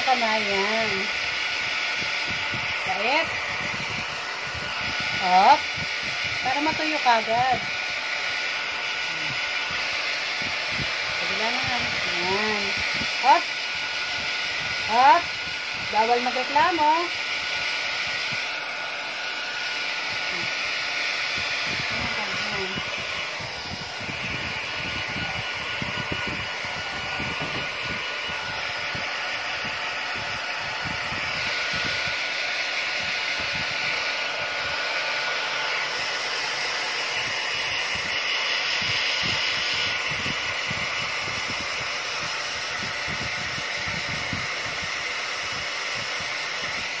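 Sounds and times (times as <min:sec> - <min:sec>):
hair dryer blowing: 0:00.0 - 0:47.0.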